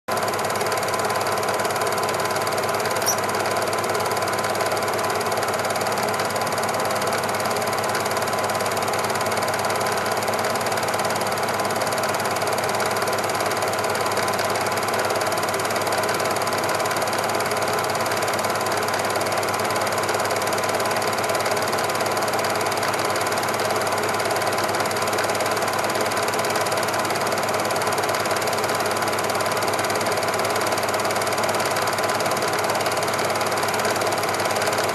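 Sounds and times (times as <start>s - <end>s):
film projector whirring and rattling: 0.1s - 34.9s.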